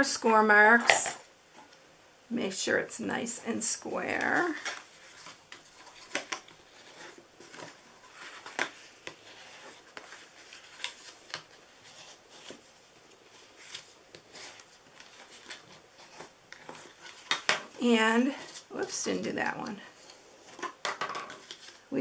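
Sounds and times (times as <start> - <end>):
paper rustling and scraping: 3.9 - 21.9.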